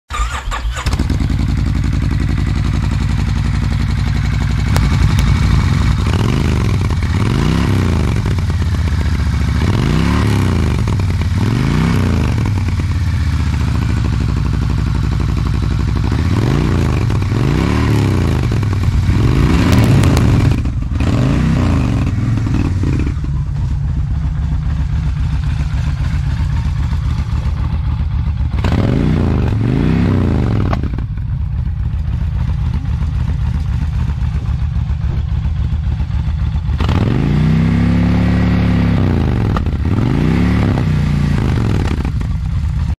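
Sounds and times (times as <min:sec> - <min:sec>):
motorcycle engine revving and idling: 0:00.1 - 0:42.9.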